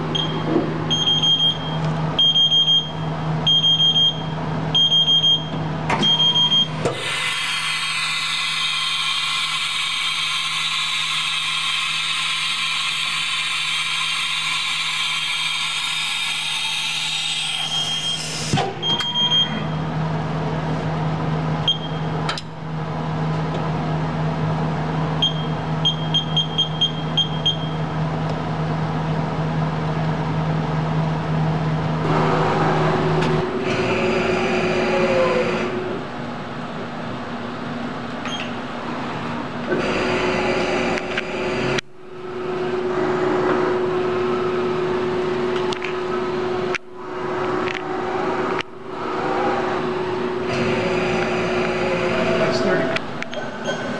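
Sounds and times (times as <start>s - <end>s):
low-toned running machine: 0.0s - 53.9s
mill spindle whine: 0.0s - 53.9s
steady machine hum: 0.0s - 53.9s.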